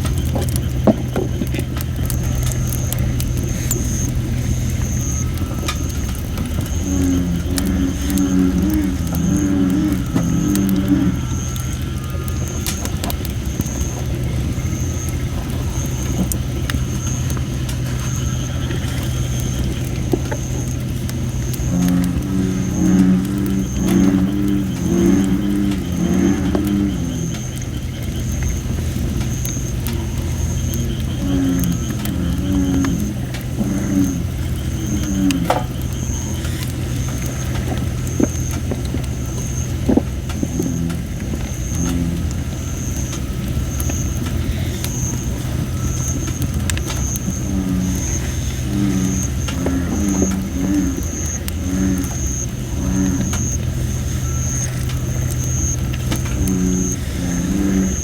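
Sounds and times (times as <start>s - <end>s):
bullfrogs croaking: 0.0s - 58.0s
campfire crackling pops: 0.0s - 58.0s
fire low rumble: 0.0s - 58.0s
high hissing whistle from logs: 0.0s - 58.0s.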